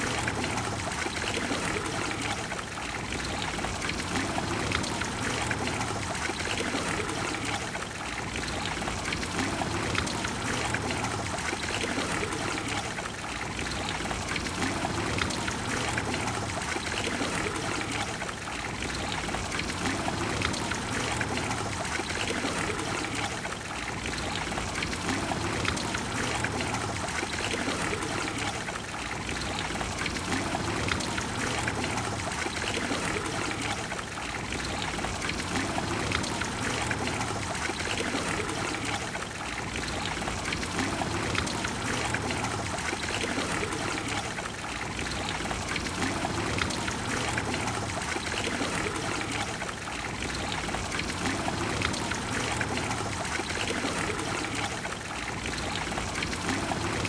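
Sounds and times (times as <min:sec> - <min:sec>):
fountain water splashing into basin: 0:00.0 - 0:57.0.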